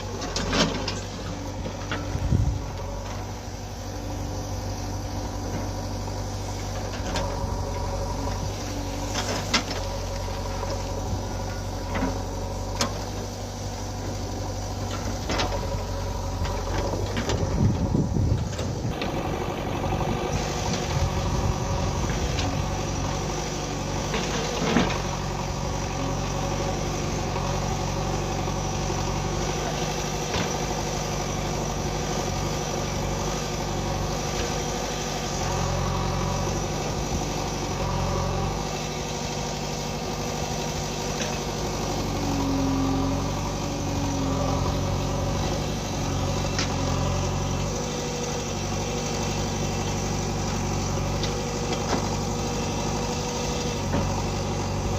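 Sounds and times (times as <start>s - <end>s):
backhoe diesel engine running: 0.0s - 54.9s.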